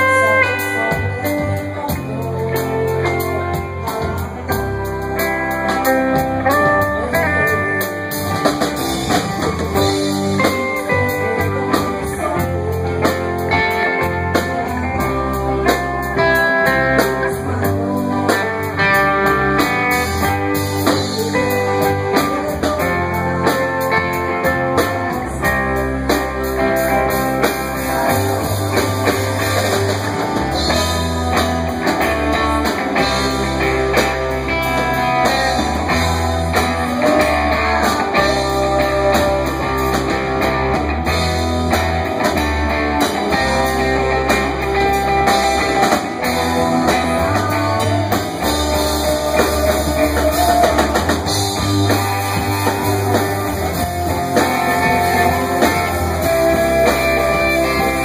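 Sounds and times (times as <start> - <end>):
drum kit: 0.0 - 58.0
electric guitars: 0.0 - 58.0
low bass notes: 0.0 - 58.0.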